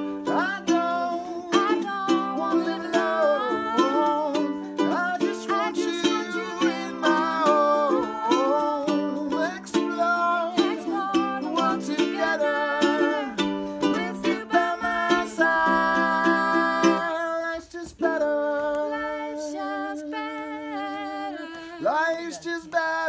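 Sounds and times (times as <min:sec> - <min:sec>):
ukulele strumming chords: 0:00.0 - 0:19.3
people singing: 0:00.0 - 0:23.0.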